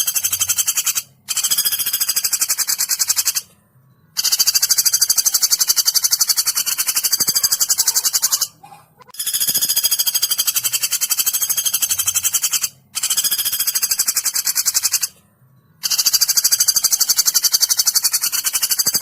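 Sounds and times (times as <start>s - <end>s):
woodpecker rattling trills: 0.0s - 15.2s, 15.8s - 19.0s.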